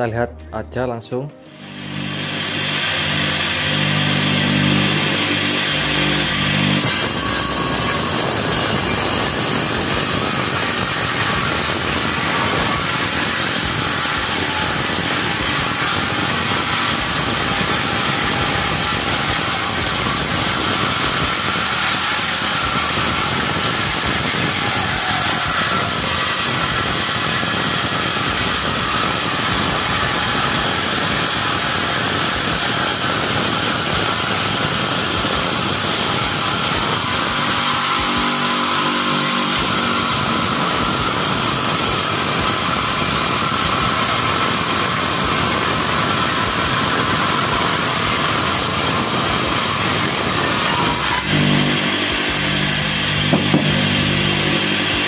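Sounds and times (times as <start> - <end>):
table saw cutting wood: 1.3 - 55.0.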